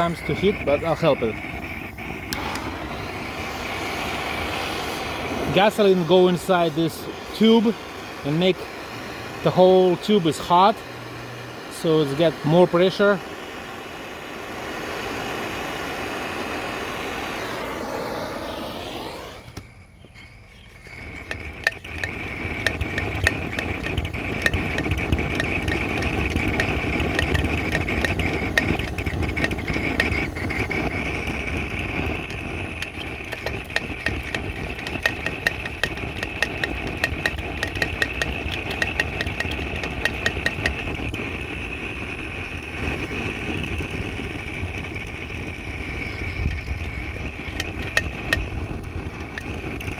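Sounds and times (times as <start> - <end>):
crackling pops: 0.0 - 12.6, 20.9 - 49.9
blow torch flame rushing: 0.0 - 49.9.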